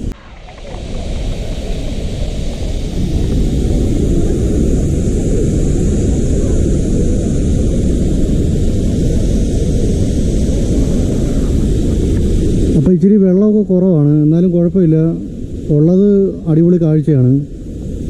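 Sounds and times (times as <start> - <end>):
waterfall rushing: 0.0 - 17.3.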